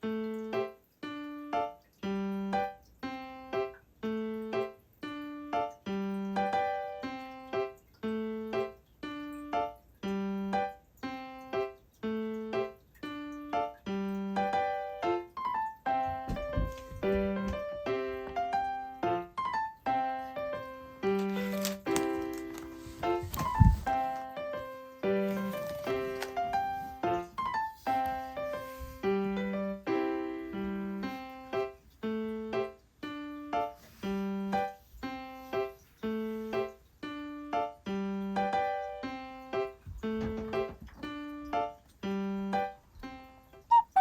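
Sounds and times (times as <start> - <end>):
piano-like keyboard melody: 0.0 - 44.0.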